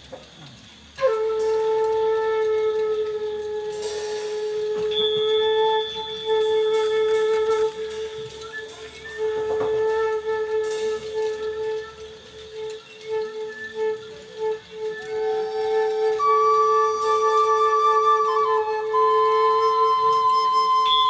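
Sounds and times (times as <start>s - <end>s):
long held instrumental note: 1.4s - 21.0s.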